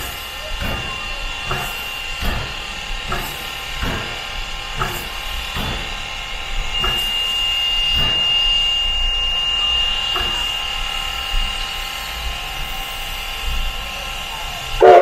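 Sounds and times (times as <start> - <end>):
steam train rumbling: 0.0 - 15.0.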